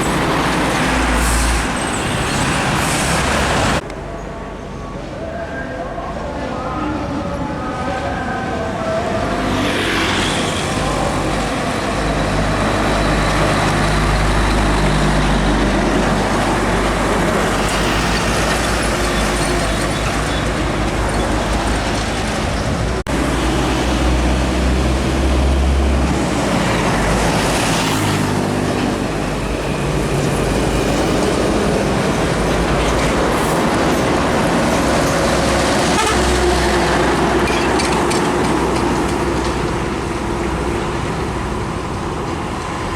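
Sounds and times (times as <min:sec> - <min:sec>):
heavy diesel trucks passing: 0:00.0 - 0:42.9
tyre and traffic noise: 0:00.0 - 0:42.9.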